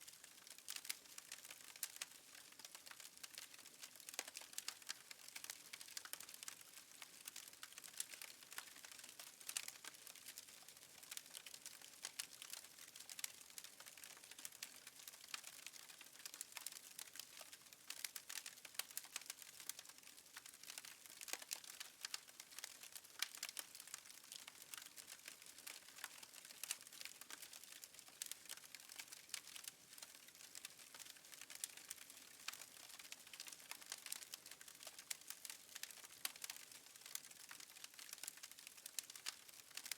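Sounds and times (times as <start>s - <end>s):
faint wood fire crackling: 0.0s - 39.9s.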